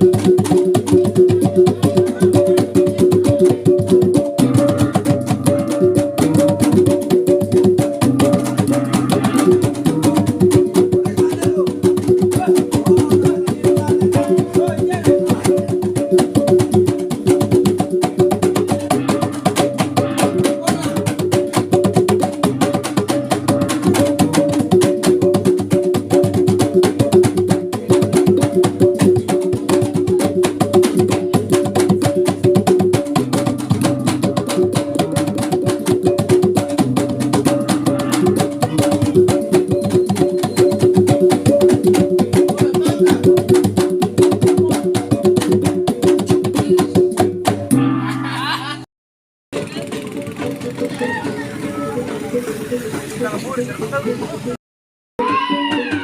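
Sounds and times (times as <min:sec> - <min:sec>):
rapid drumbeats: 0:00.0 - 0:48.6, 0:49.5 - 0:54.6, 0:55.2 - 0:56.0.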